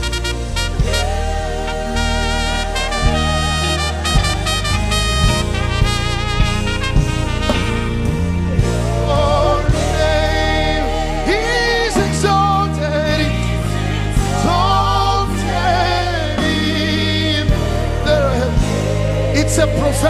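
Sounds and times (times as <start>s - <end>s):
bass line: 0.0s - 20.0s
gospel singing: 0.0s - 20.0s
keyboard: 0.0s - 20.0s.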